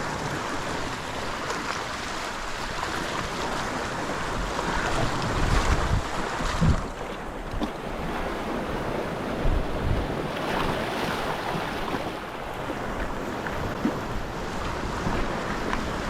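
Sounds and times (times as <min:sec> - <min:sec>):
water lapping around boat: 0:00.0 - 0:16.0
wind buffeting microphone: 0:00.0 - 0:16.0.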